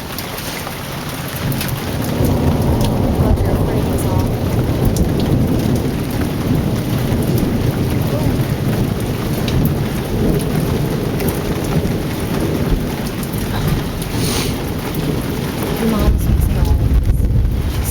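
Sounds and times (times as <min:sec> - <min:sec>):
heavy rain pouring: 0:00.0 - 0:17.9
ticks of raindrops: 0:00.0 - 0:17.9
rolling rumble of thunder: 0:00.8 - 0:17.9.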